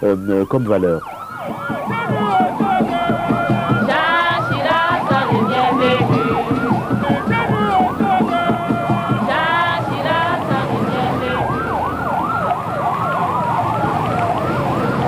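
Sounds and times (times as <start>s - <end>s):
siren fast yelp: 0.0s - 15.0s
siren slow wail: 0.0s - 15.0s.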